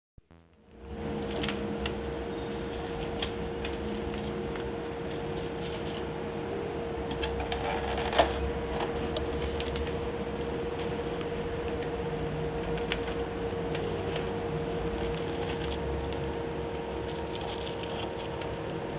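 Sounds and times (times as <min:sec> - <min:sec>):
steady hum: 0:00.2 - 0:18.9.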